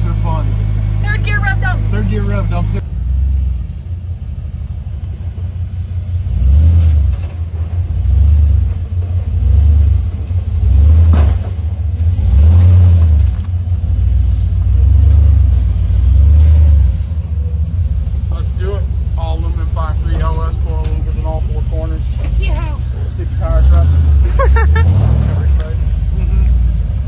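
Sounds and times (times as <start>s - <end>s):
engine low rumble: 0.0s - 27.0s.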